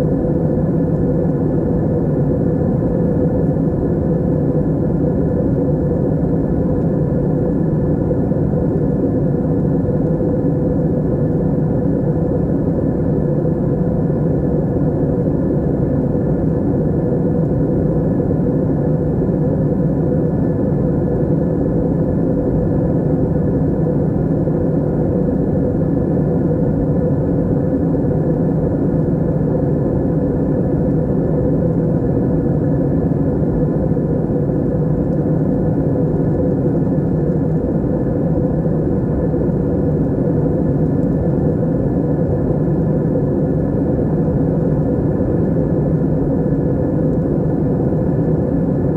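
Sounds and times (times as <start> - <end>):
airliner cabin engine drone: 0.0 - 48.9
faint steady hum: 0.0 - 48.9.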